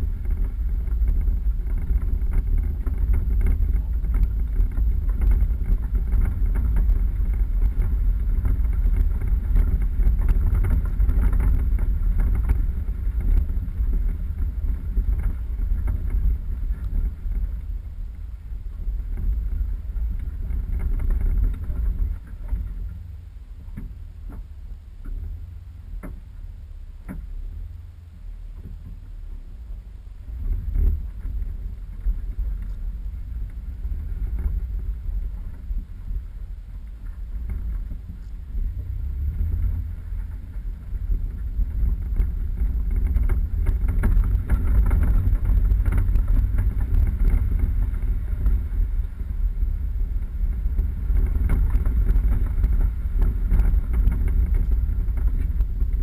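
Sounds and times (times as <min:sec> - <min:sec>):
off-road vehicle rumble: 0:00.0 - 0:56.0
wind buffeting microphone: 0:00.0 - 0:56.0.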